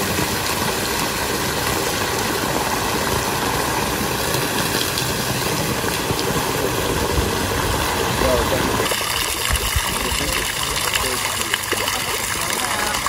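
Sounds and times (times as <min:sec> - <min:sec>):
water jet splashing into pool: 0:00.0 - 0:13.0.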